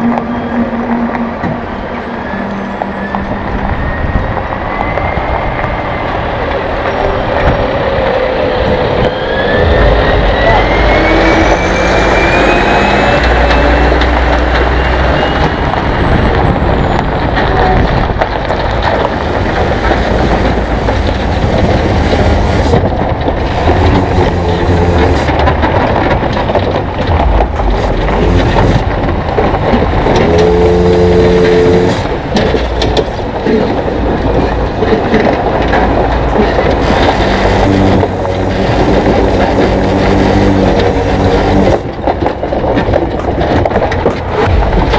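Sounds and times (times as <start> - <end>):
trailer rumble and rattle: 0.0 - 44.9
truck engine running: 0.0 - 44.9
tyres rolling over gravel: 0.0 - 44.9.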